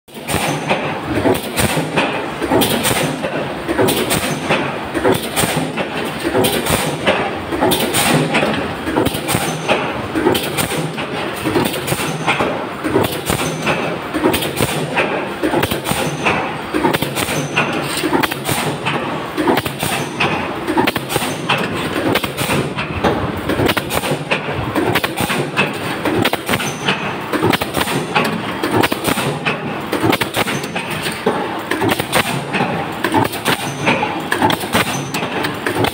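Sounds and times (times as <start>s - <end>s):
machine clattering: 0.1s - 35.9s
sharp metallic knocks: 0.1s - 35.9s.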